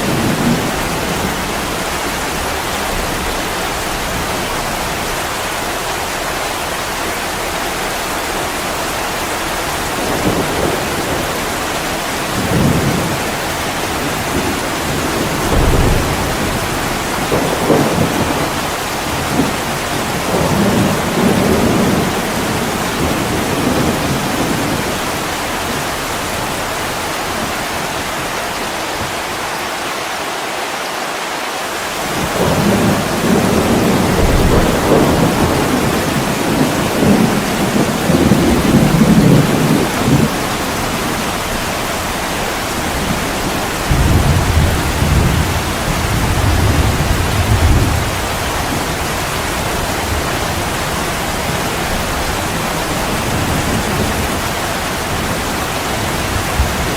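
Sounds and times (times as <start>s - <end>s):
rolling thunder: 0.0s - 5.6s, 7.0s - 29.4s, 32.1s - 56.9s
heavy rain on a window: 0.0s - 56.9s.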